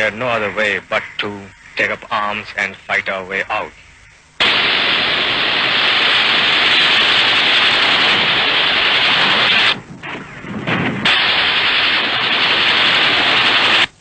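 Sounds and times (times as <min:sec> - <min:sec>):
loud static hiss: 0:00.0 - 0:14.0.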